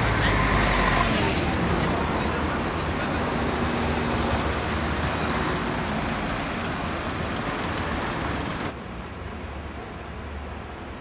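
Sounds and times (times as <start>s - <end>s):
city noise hiss and rumble: 0.0s - 11.0s.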